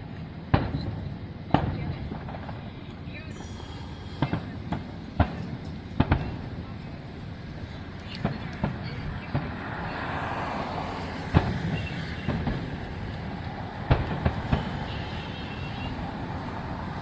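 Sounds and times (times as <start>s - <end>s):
distant fireworks bangs: 0.5s - 17.0s.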